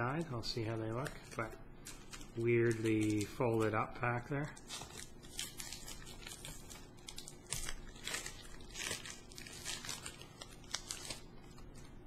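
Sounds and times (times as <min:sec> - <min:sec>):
foil wrapper crinkling: 0:00.6 - 0:12.0.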